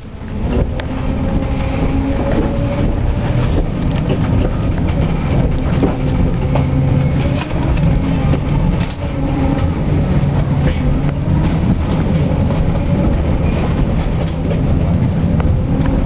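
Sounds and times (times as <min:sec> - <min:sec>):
motor hum: 0:00.0 - 0:16.0
tram wheels rumbling on rail: 0:00.0 - 0:16.0.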